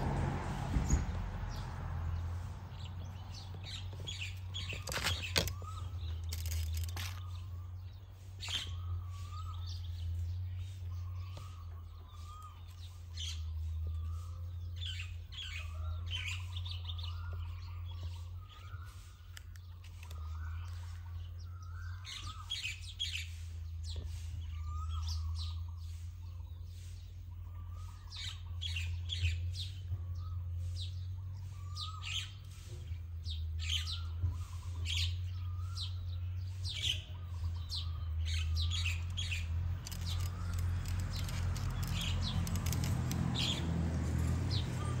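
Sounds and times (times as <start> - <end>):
small birds chirping: 0.8 - 45.0.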